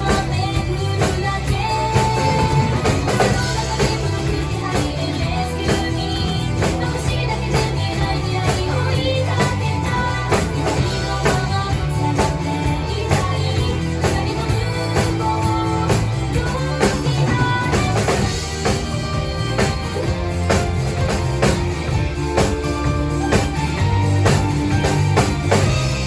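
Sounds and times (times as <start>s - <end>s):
drum kit steady beat: 0.0s - 26.0s
pop-rock song with vocals: 0.0s - 26.0s.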